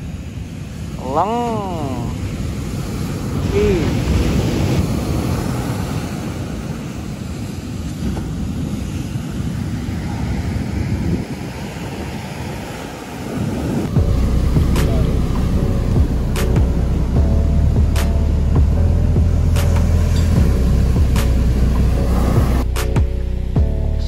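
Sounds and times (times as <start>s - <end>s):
ocean surf breaking: 0.0s - 17.2s, 19.5s - 22.9s
wind buffeting microphone: 0.0s - 23.7s.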